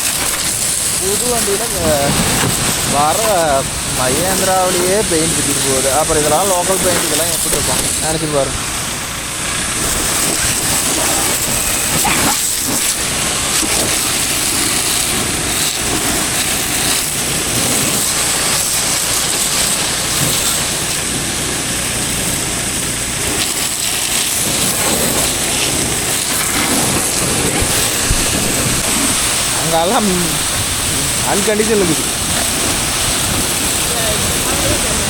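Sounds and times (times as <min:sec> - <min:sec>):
pressure washer spraying water: 0:00.0 - 0:35.0.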